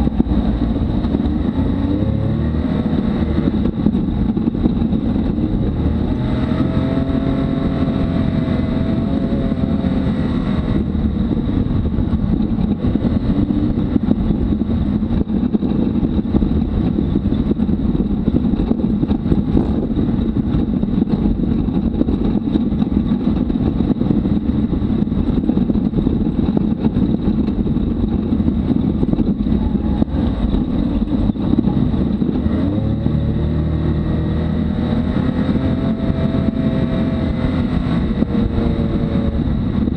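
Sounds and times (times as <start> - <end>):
engine running: 0.0 - 39.9
tyre rumble on dirt track: 0.0 - 39.9.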